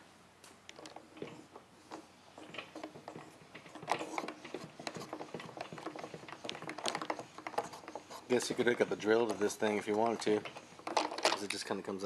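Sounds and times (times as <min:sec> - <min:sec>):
hand crank mechanical clicks: 0:00.7 - 0:11.8.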